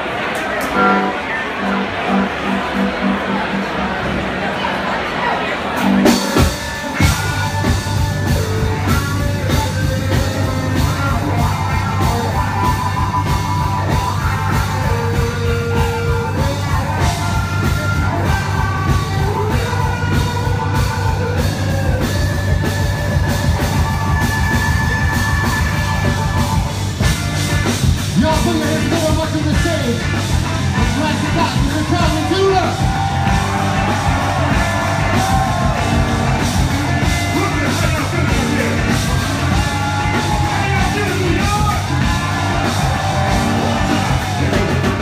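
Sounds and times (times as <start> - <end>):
live funk band playing: 0.3 - 3.7, 5.7 - 45.0.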